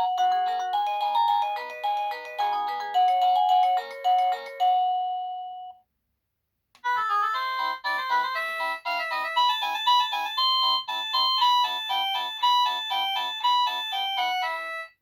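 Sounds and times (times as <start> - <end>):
doorbell chime melody: 0.0 - 5.8, 6.8 - 15.0.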